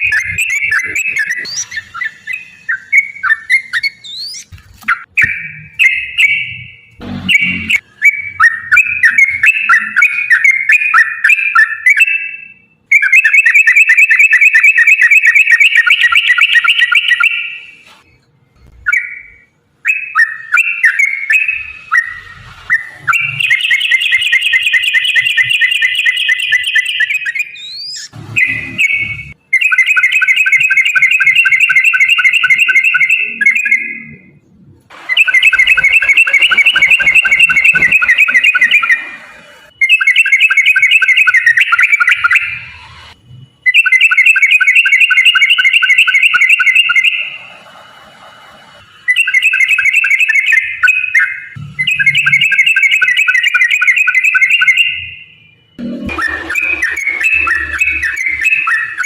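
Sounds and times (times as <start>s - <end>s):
bulbul singing rolling phrases: 0.0s - 13.9s, 18.9s - 42.9s, 48.9s - 59.0s.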